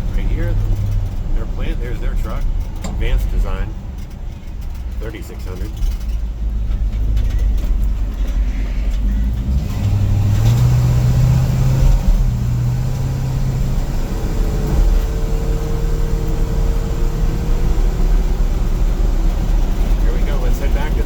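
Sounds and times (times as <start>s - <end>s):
pickup truck engine: 0.0s - 21.0s.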